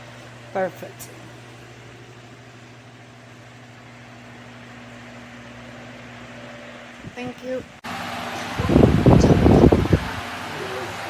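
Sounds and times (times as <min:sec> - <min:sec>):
fan motor hum: 0:00.0 - 0:11.0.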